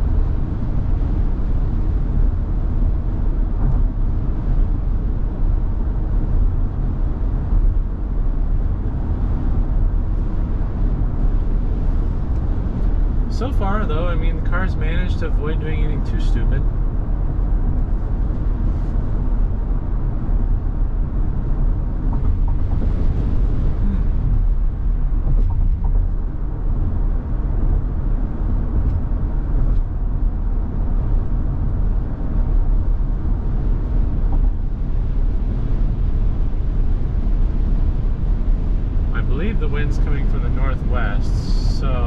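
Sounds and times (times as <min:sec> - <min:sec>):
gusty wind on car: 0:00.0 - 0:42.0
road noise inside car: 0:00.0 - 0:42.0.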